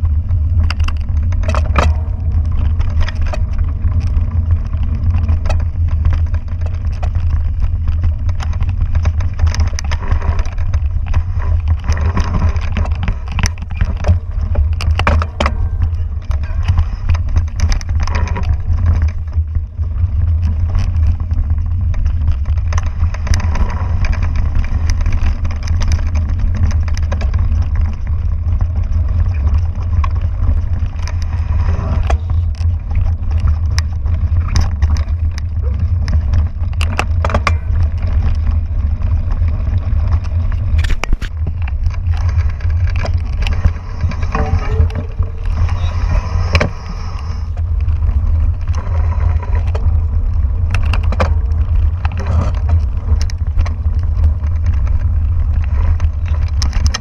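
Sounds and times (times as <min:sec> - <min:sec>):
bike clicks and rattles: 0:00.0 - 0:57.0
wind rumble on microphone: 0:00.0 - 0:57.0.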